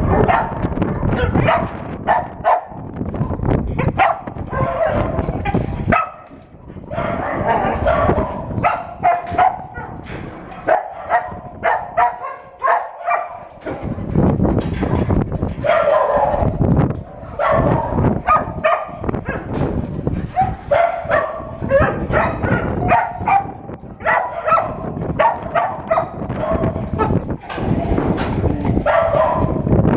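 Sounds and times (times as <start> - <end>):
dogs barking and yipping: 0.0 - 14.0, 15.4 - 29.9.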